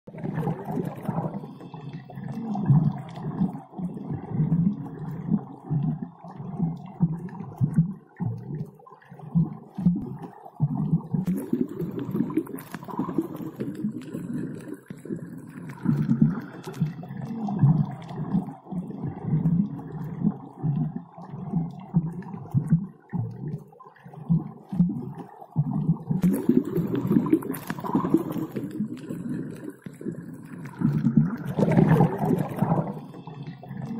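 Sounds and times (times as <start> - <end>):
gurgling underwater rumble: 0.1 - 33.9.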